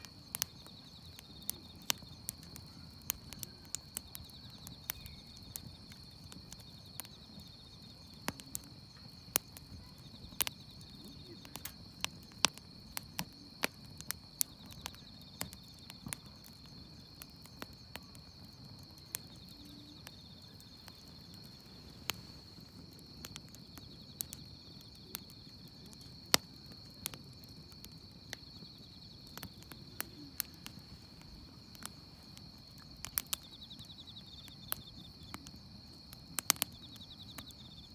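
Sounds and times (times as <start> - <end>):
campfire crackling and popping: 0.0 - 37.9
crickets chirring: 0.0 - 37.9.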